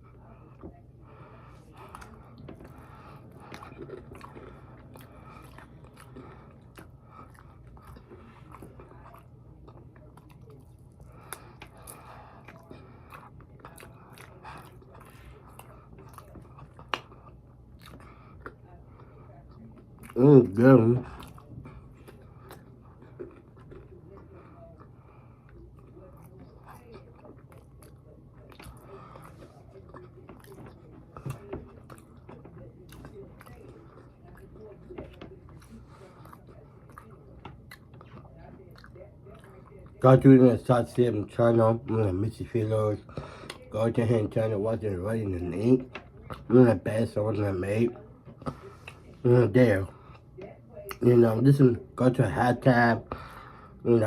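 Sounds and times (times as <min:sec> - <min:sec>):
person chewing food: 0:00.0 - 0:47.0, 0:47.6 - 0:49.2.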